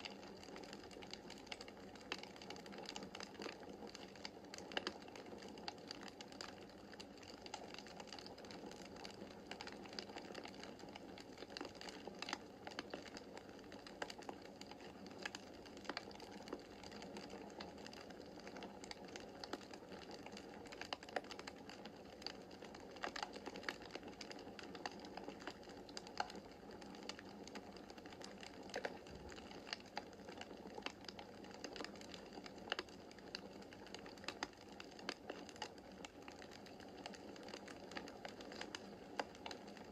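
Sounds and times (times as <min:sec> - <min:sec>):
fire pops and snaps: 0:07.0 - 0:39.9.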